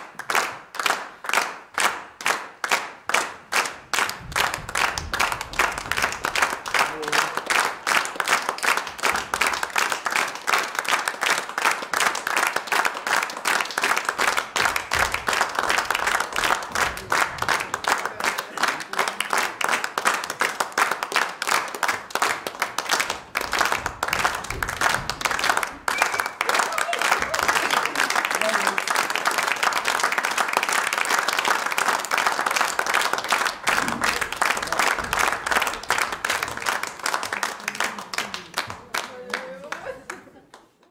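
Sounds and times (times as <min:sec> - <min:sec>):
audience applauding: 0:00.0 - 0:40.9.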